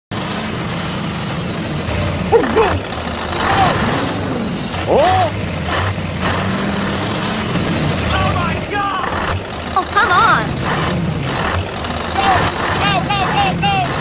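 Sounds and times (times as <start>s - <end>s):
truck engine humming: 0.1s - 14.0s.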